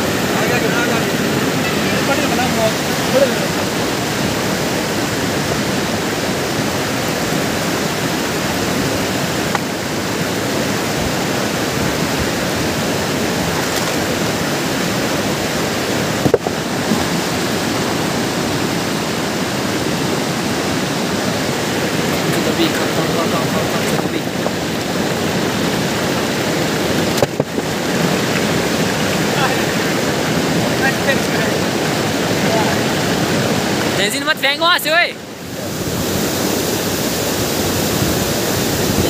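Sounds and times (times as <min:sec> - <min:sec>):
mountain river rushing: 0:00.0 - 0:39.0.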